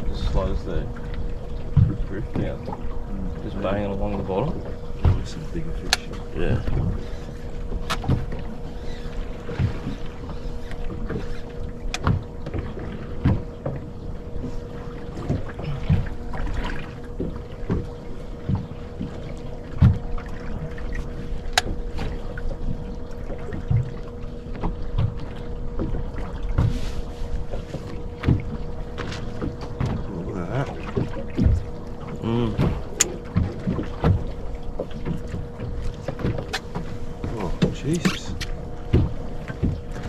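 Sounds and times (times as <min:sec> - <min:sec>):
steady hum: 0:00.0 - 0:40.0
water slapping against hull: 0:00.0 - 0:40.0.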